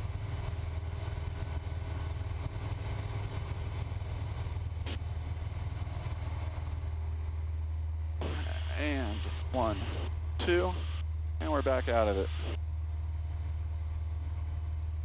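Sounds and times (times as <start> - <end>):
airplane engine droning: 0.0 - 15.0.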